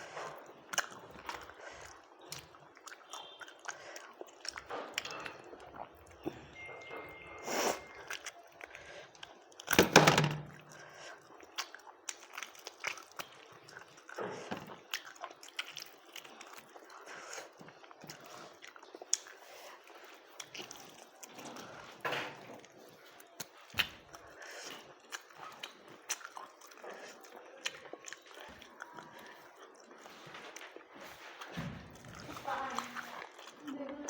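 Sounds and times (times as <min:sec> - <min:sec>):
chewing with mouth clicks: 0:00.0 - 0:09.7, 0:10.6 - 0:34.0.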